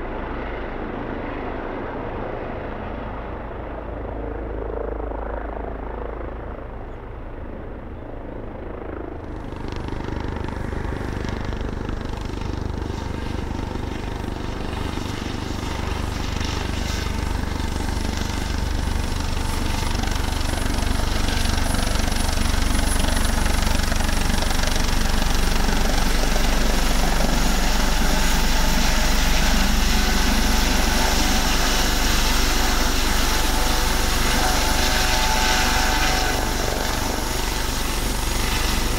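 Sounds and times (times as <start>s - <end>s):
helicopter hovering: 0.0s - 38.9s
helicopter landing: 0.0s - 38.9s.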